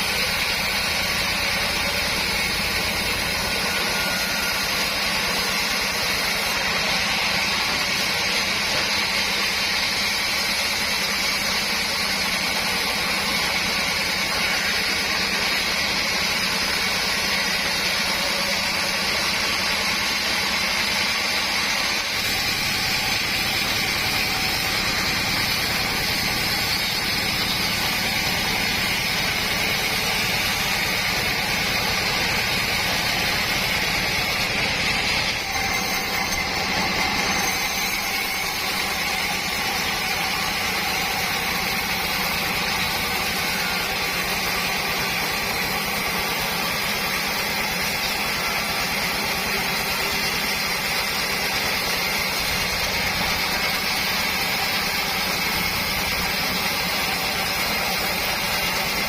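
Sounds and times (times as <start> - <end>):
sawmill saw droning: 0.0 - 59.0.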